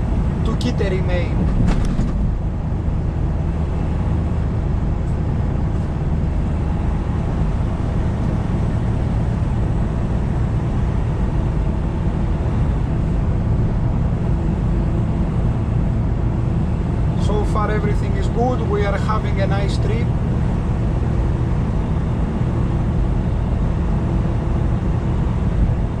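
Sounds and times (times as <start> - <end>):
truck diesel engine running: 0.0 - 26.0
tyre and road noise: 0.0 - 26.0.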